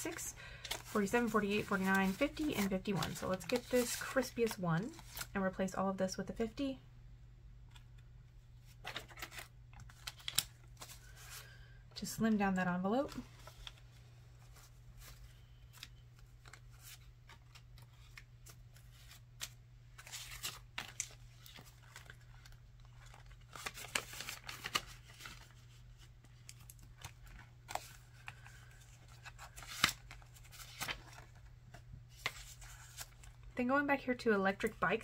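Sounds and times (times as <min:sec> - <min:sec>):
paper and plastic rustling: 0:00.0 - 0:05.3, 0:08.6 - 0:11.6, 0:12.9 - 0:33.5
low steady hum: 0:00.0 - 0:35.0.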